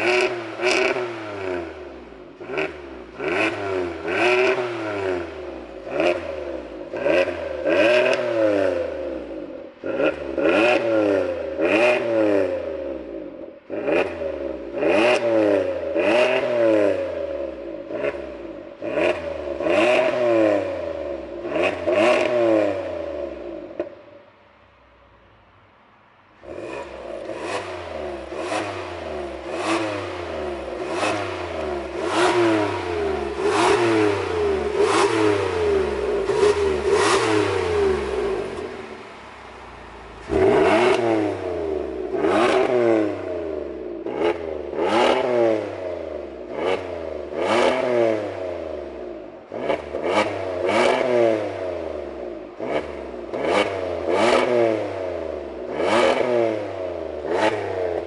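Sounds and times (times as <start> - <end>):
car engine revving: 0.0 - 24.1, 26.4 - 58.0.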